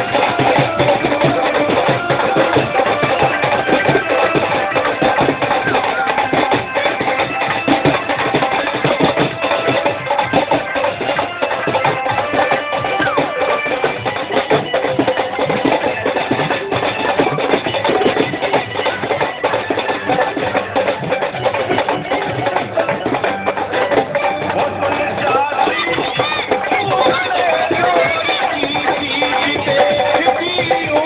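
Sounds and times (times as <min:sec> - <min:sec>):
loud music with busy drumming: 0:00.0 - 0:31.0.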